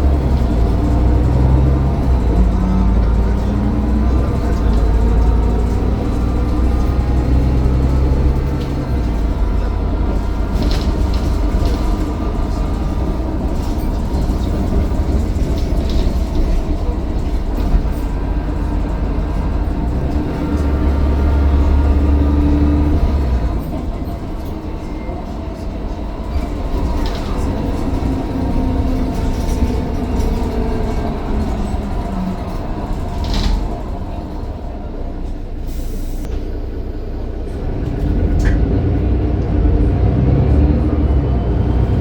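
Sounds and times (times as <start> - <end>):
bus diesel engine rumble: 0.0 - 42.0.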